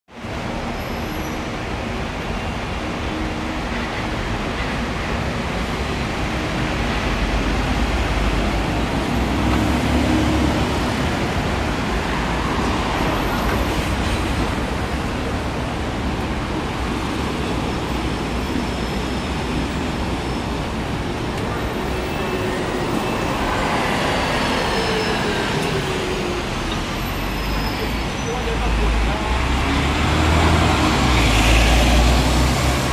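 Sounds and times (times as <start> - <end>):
road traffic: 0.1 - 32.9
bus engine rumble: 1.4 - 32.9.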